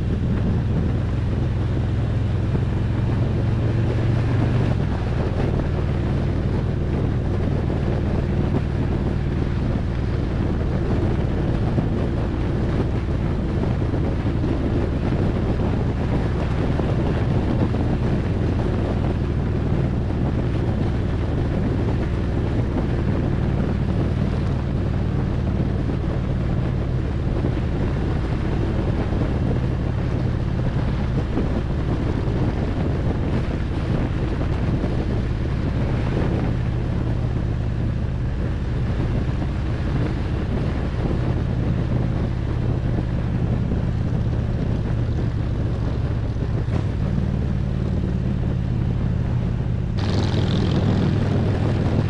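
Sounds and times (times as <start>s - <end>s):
motorcycle engine cruising: 0.0s - 52.0s
wind rushing over microphone: 0.0s - 52.0s.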